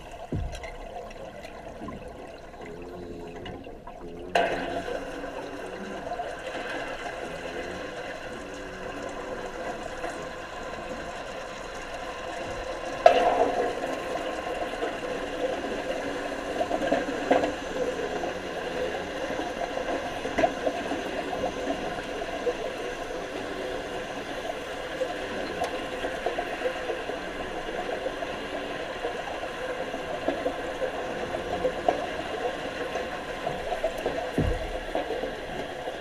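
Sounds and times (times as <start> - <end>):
underwater bubbling: 0.0 - 36.0.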